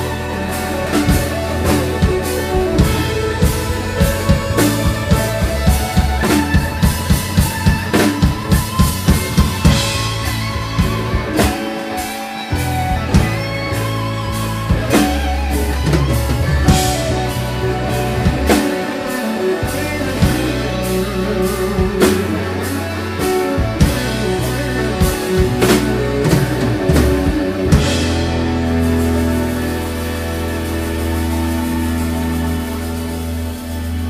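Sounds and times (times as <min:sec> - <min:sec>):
bass: 0:00.0 - 0:34.0
drum kit: 0:00.0 - 0:34.0
electric guitar: 0:00.0 - 0:34.0
keyboard: 0:00.0 - 0:34.0.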